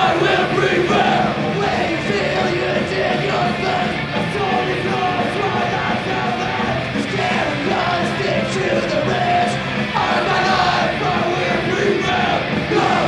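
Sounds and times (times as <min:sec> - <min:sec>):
punk rock band playing live: 0:00.0 - 0:13.0
yelled vocals: 0:00.0 - 0:13.0.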